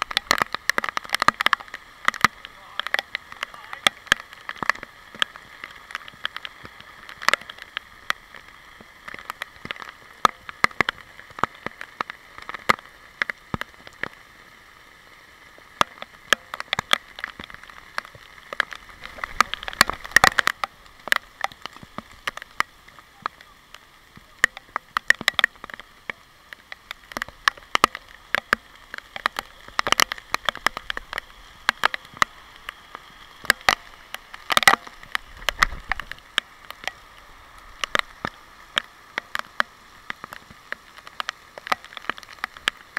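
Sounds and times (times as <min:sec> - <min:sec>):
heavy rain hissing: 0:00.0 - 0:42.9
raindrops tapping camera housing: 0:00.0 - 0:42.9.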